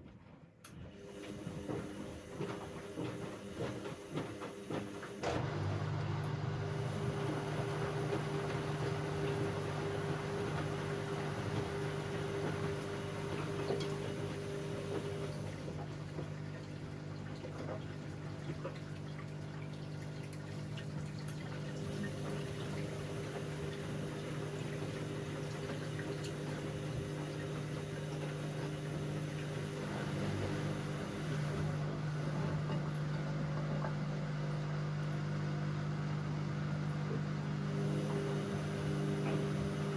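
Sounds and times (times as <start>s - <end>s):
washing machine running: 0.0s - 39.9s
water moving through machine: 1.0s - 33.2s, 35.1s - 39.9s.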